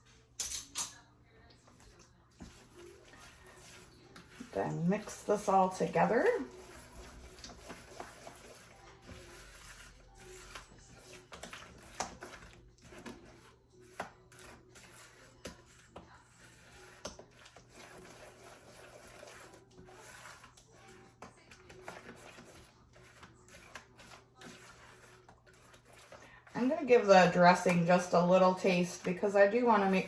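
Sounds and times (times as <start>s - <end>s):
utensil scraping a bowl: 1.7s - 30.0s.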